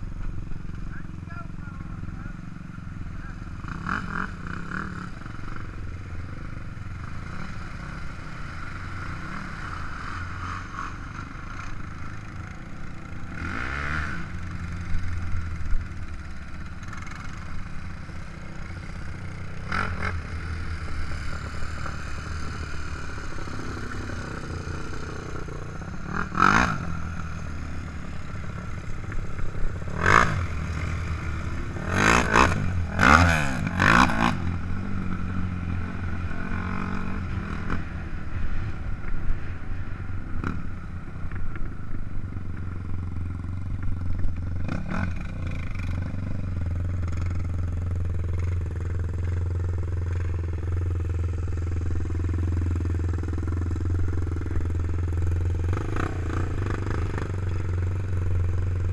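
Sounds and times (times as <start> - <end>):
quad engine running: 0.0 - 58.9.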